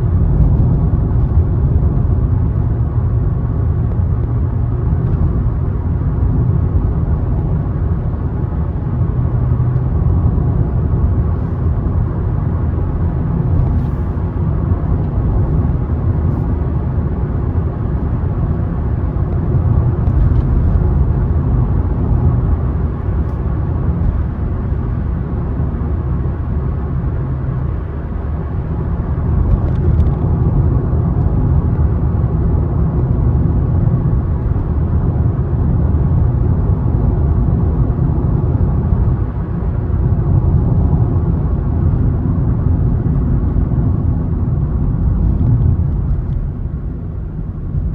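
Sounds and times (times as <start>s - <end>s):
car driving on road: 0.0s - 47.9s.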